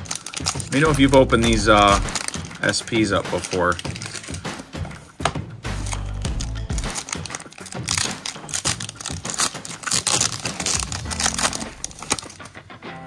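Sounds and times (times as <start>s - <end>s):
foil wrapper crinkling and tearing: 0.0s - 4.8s, 5.8s - 12.6s.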